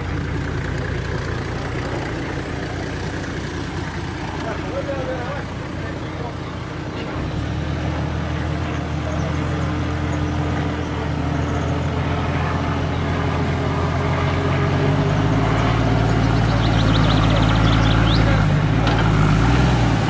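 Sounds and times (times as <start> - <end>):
vehicle engine running under load: 0.0 - 20.0.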